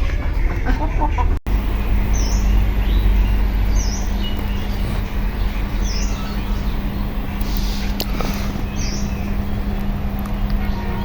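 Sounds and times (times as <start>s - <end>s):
bird chirping: 0.0s - 11.0s
tractor diesel engine running: 0.0s - 11.0s.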